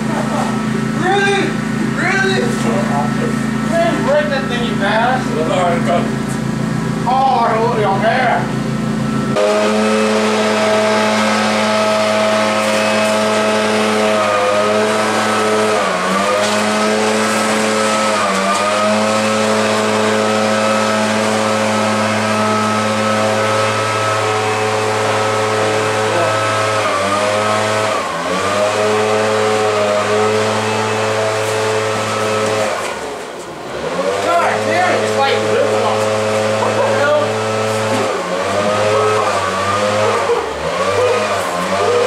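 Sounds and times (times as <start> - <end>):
engine droning: 0.0 - 42.0.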